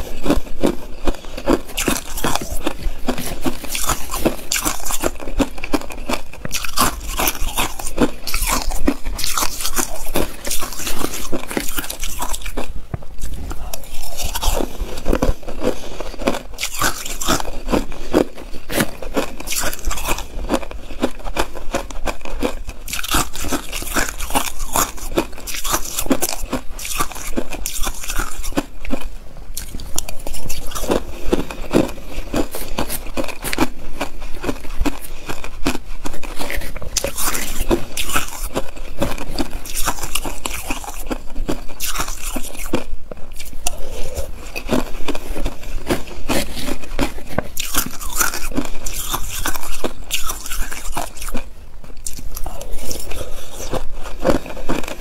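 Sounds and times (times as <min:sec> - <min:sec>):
crushed ice being chewed: 0:00.0 - 0:55.0.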